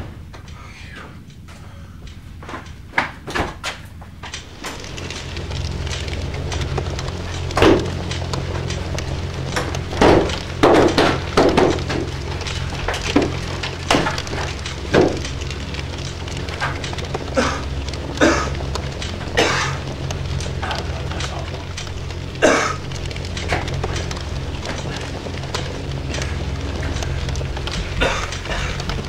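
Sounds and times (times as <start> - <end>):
low steady drone: 4.2 - 29.0
loud bangs and crashes: 4.3 - 29.0.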